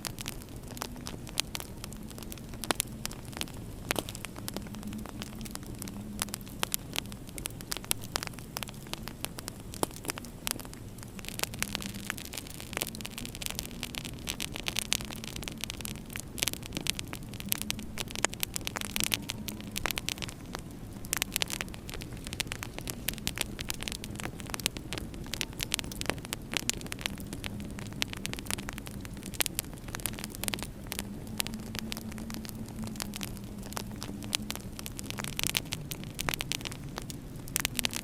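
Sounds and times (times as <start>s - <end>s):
steady low hum: 0.0s - 38.0s
wood fire crackling: 0.0s - 38.0s.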